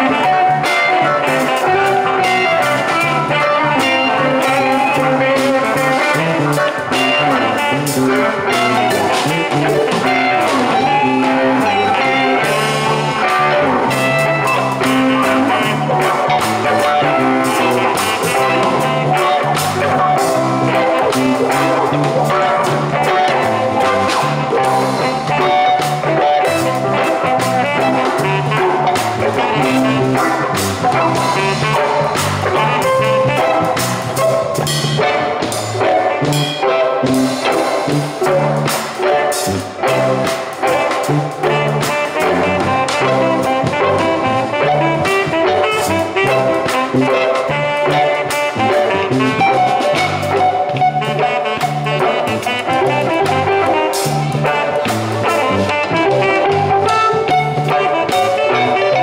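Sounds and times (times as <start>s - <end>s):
drum kit: 0.0s - 59.0s
electric guitars: 0.0s - 59.0s
saxophone: 0.0s - 59.0s.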